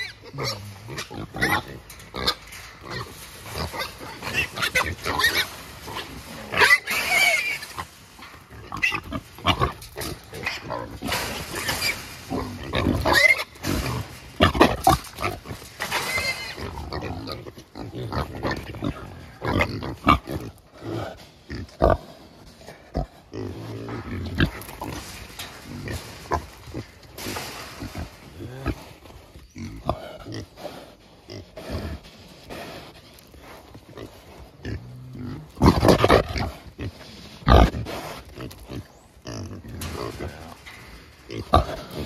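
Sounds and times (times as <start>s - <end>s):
hogs grunting and squealing: 0.0s - 42.0s.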